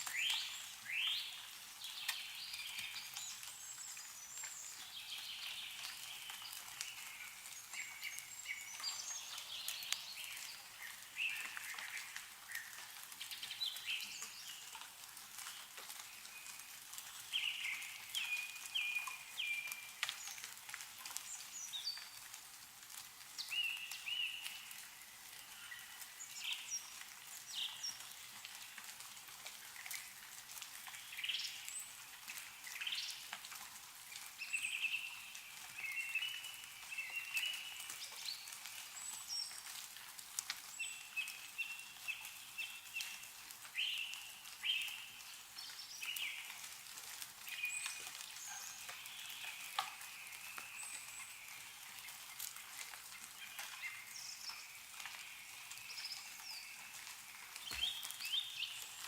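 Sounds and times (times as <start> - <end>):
small birds chirping: 0.0 - 22.4, 23.3 - 33.4, 34.0 - 39.8, 40.6 - 59.0
meltwater dripping: 0.0 - 59.0.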